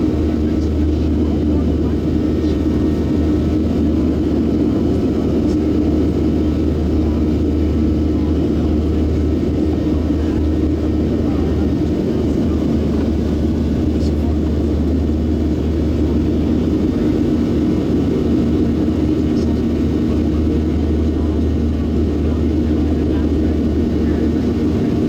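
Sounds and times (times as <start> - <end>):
jet engines droning: 0.0 - 25.0.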